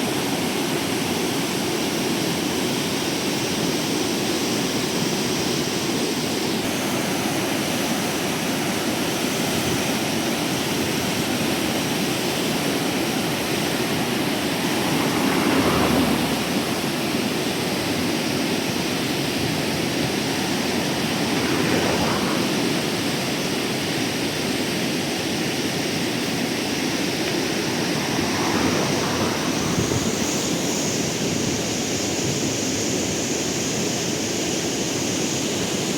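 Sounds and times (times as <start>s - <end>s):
river water rushing: 0.0s - 35.9s.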